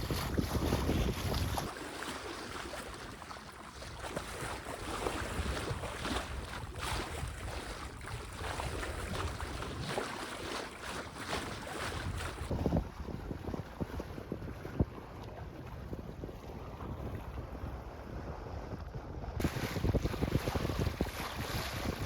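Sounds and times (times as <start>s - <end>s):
wind on microphone: 0.0s - 1.7s, 3.8s - 22.0s
water splashing along hull: 0.0s - 22.0s.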